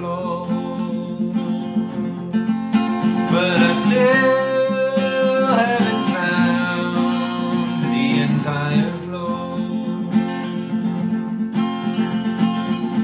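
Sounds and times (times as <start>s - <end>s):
man singing: 0.0s - 10.5s
acoustic guitar strumming: 0.0s - 13.0s.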